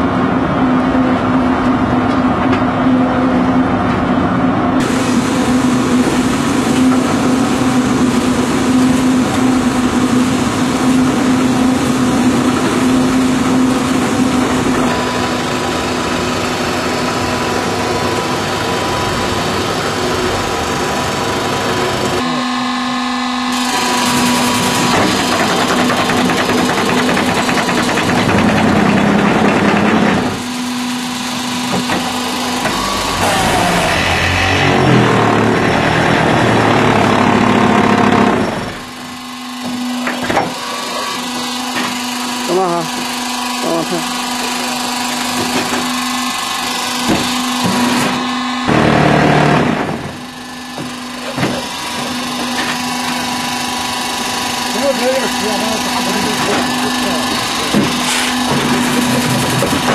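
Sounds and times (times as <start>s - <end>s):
block-making machine running: 0.0s - 59.9s.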